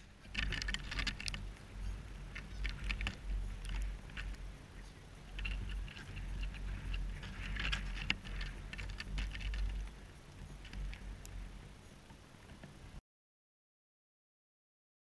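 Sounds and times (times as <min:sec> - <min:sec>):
crackles of dry weeds and snow: 0:00.0 - 0:13.0
wind rumbling on microphone: 0:00.0 - 0:13.0.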